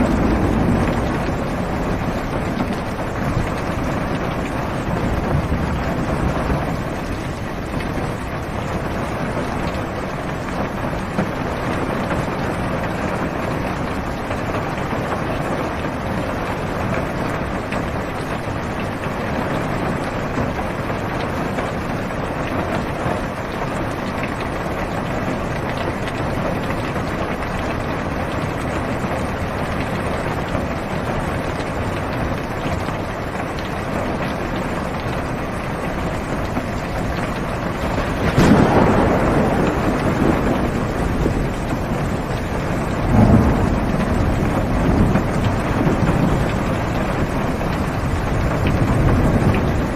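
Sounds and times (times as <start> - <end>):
heavy rain on car roof: 0.0 - 49.9.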